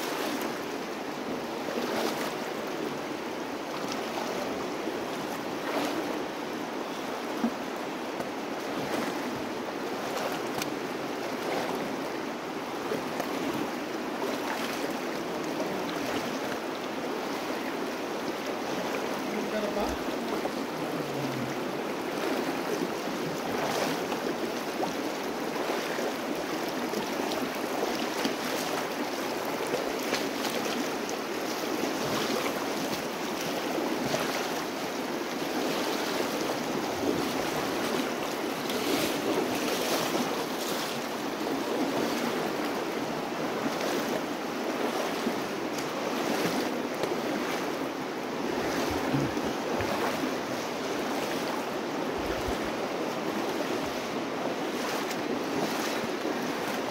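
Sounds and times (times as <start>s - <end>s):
river rushing over rocks: 0.0s - 56.9s.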